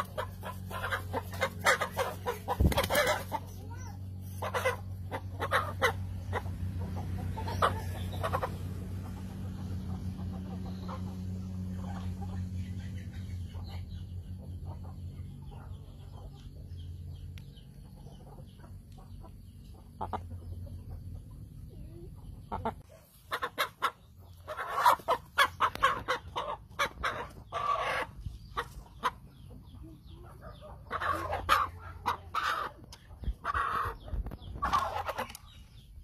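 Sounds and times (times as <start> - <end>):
chickens clucking and squawking: 0.0 - 36.0.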